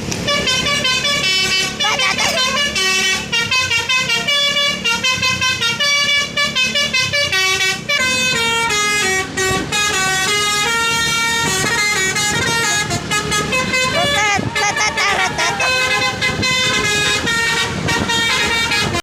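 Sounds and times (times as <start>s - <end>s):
multi-tone musical horn tune: 0.2s - 19.0s.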